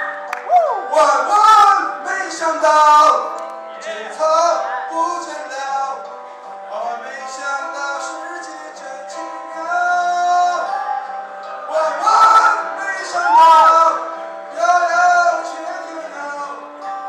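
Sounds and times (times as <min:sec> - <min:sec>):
instrumental backing music: 0:00.0 - 0:17.0
man singing into microphone: 0:00.8 - 0:17.0.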